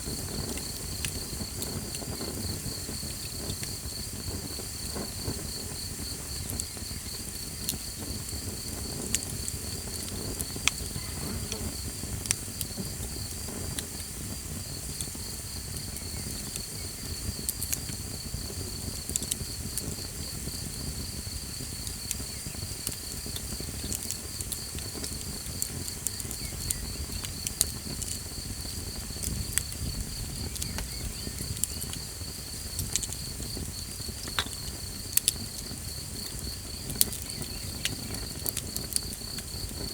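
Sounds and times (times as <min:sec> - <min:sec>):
campfire crackling and popping: 0:00.0 - 0:39.9
night insects chirping: 0:00.0 - 0:39.9.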